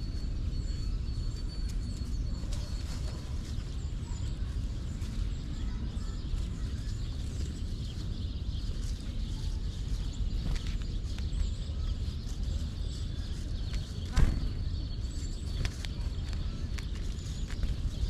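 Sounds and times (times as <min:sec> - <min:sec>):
low outdoor rumble: 0:00.0 - 0:18.0
songbirds chirping: 0:00.0 - 0:18.0.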